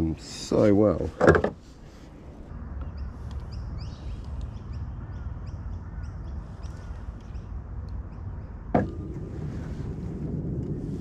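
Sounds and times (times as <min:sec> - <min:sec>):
steady low rumble: 0:00.0 - 0:11.0
small birds chirping: 0:00.1 - 0:09.8.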